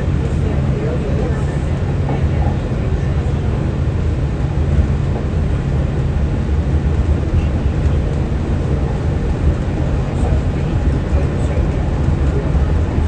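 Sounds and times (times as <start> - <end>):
monorail low rumble: 0.0 - 13.0.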